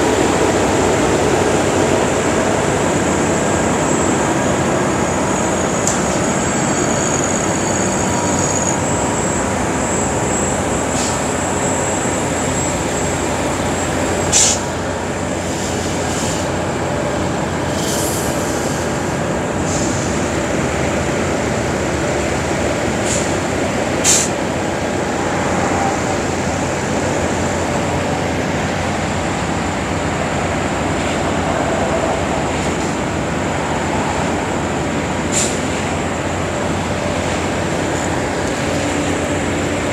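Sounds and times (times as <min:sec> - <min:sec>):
concrete mixer truck rumble: 0:00.0 - 0:31.5, 0:32.1 - 0:39.9.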